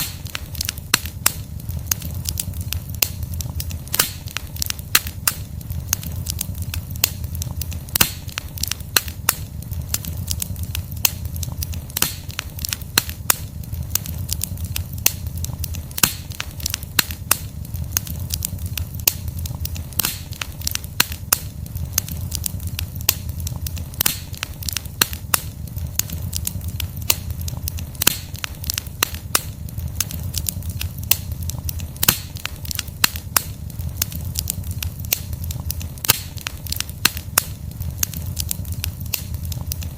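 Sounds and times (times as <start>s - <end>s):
low rush of flame: 0.0s - 39.9s
wood crackling and popping: 0.0s - 39.9s.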